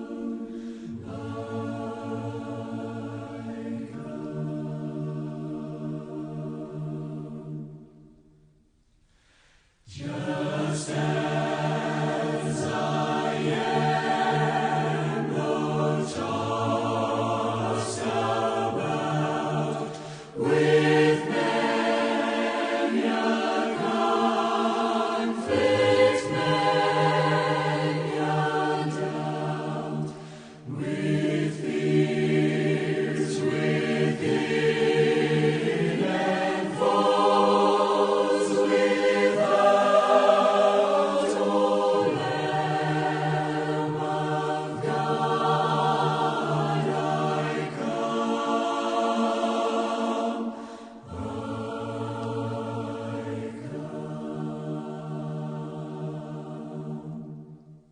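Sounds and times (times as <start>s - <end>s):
choir singing sustained chords: 0.0s - 57.9s.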